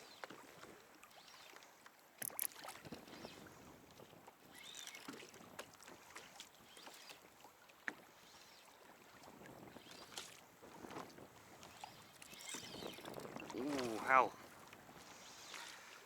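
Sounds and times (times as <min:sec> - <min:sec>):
faint water and hull noise: 0:00.0 - 0:16.0.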